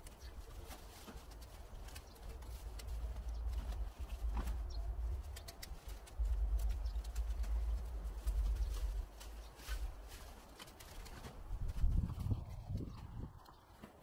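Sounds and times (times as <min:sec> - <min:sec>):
branches crackling in plastic bag: 0:00.0 - 0:12.4.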